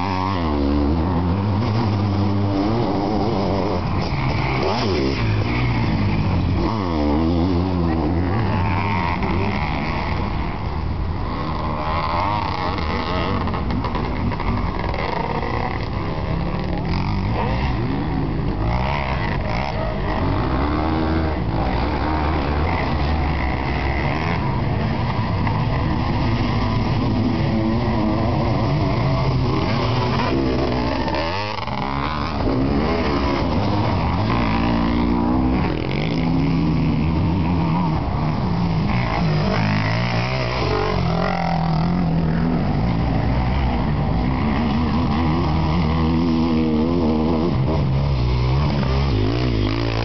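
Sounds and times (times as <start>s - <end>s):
racing engine revving: 0.0s - 50.0s.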